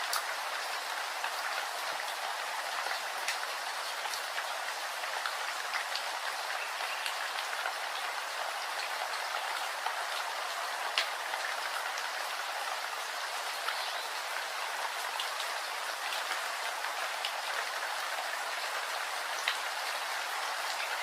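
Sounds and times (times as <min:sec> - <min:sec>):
raindrops ticking on surface: 0:00.0 - 0:21.0
steady rain hiss: 0:00.0 - 0:21.0.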